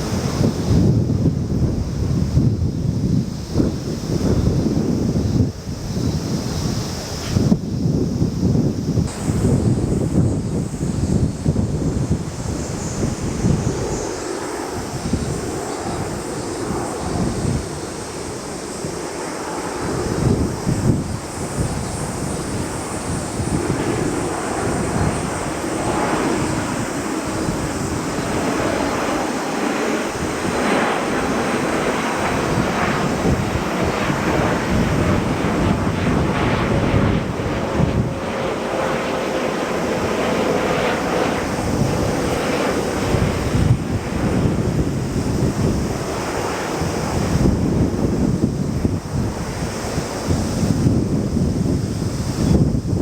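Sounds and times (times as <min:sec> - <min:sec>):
steady rushing noise: 0:00.0 - 0:53.0
wind buffeting microphone: 0:00.0 - 0:53.0.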